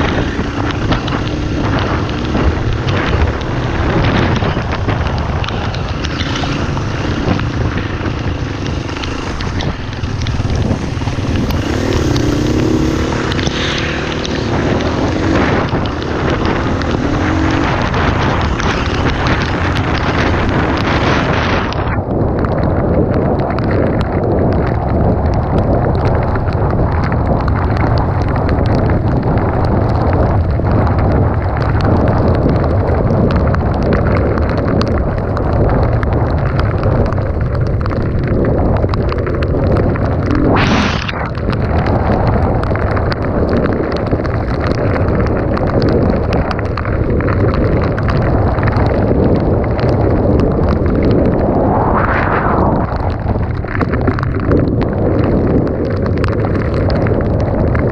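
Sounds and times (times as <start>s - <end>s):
dirt bike engine running: 0.0s - 57.9s
wind buffeting microphone: 0.0s - 57.9s.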